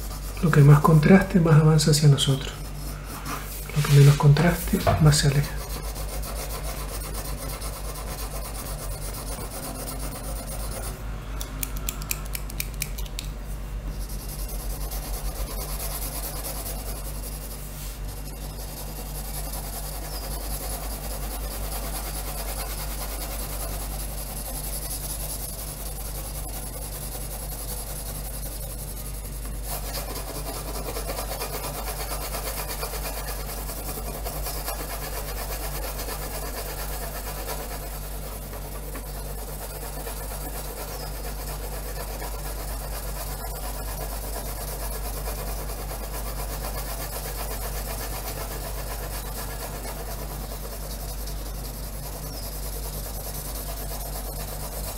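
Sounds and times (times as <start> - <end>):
pencil scratching on paper: 0.0 - 11.0, 13.5 - 54.9
steady low hum: 0.0 - 54.9.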